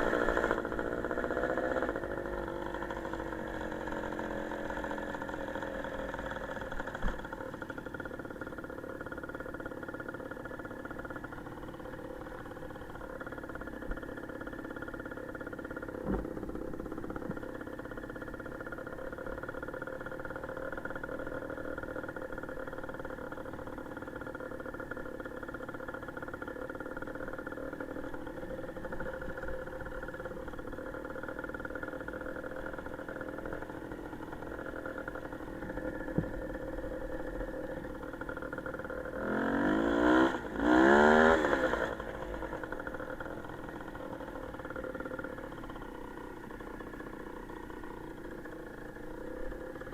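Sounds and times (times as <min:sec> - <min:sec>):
small motorcycle engine revving: 0:00.0 - 0:49.9.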